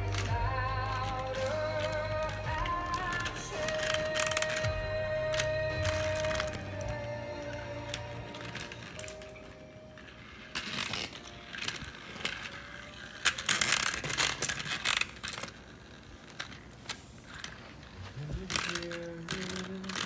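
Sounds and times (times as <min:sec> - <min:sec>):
plastic toy pieces clicking: 0:00.0 - 0:07.0, 0:07.9 - 0:17.6, 0:18.2 - 0:20.0.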